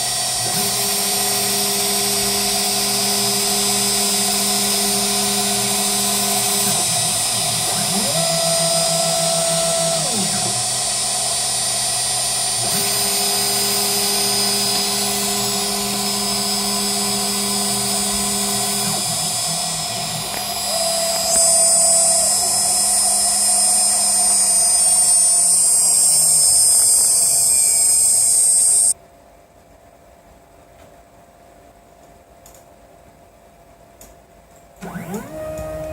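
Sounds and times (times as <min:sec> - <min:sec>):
cnc router spindle whine: 0:00.0 - 0:29.0, 0:34.8 - 0:35.9.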